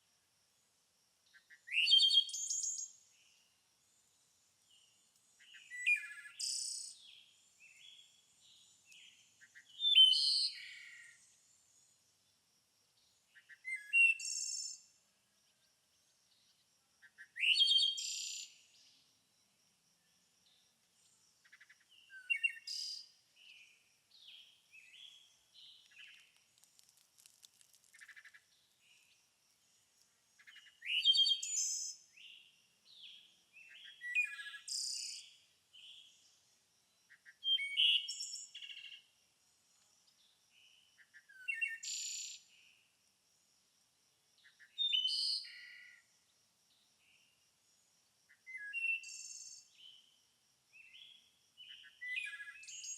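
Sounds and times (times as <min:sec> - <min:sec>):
songbirds singing: 0:01.2 - 0:42.8, 0:44.4 - 0:50.2, 0:50.8 - 0:52.9.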